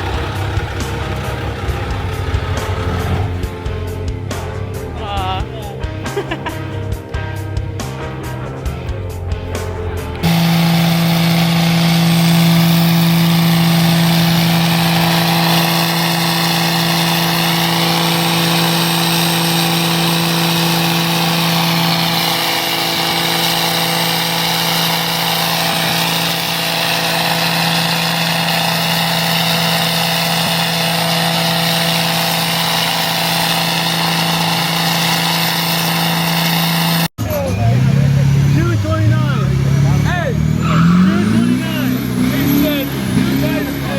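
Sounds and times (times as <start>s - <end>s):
truck engine droning: 0.0s - 43.9s.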